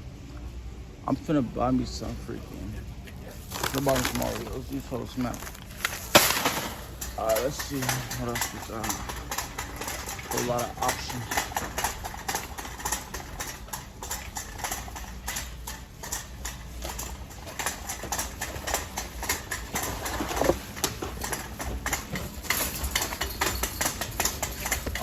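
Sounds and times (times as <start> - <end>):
low steady hum: 0.0 - 25.0
shopping cart rolling: 1.1 - 25.0.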